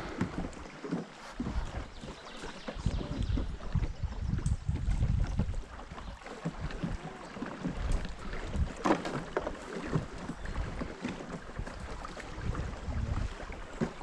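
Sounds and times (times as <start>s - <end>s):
wind on microphone: 0.0s - 7.1s, 7.7s - 14.0s
water noise around boat: 0.0s - 14.0s.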